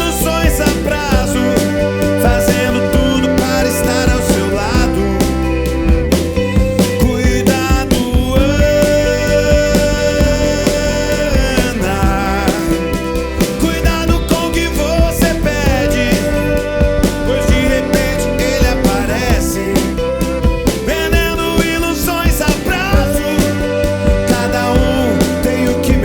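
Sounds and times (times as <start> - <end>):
drum hits: 0.0 - 26.0
lead guitar bending notes: 0.0 - 26.0
rock band playing live: 0.0 - 26.0.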